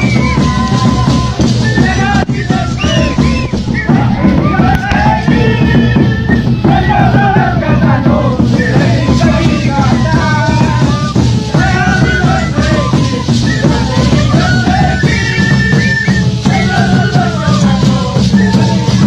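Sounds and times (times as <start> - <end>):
large drums beaten in steady beat: 0.0 - 19.0
small flutes playing melody: 0.0 - 19.0.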